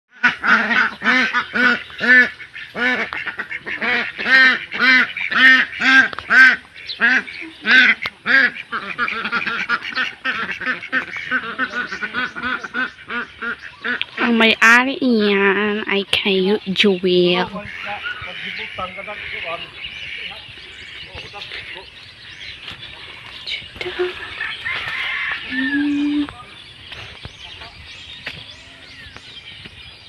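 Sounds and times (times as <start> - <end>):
ducks quacking: 0.1 - 29.7.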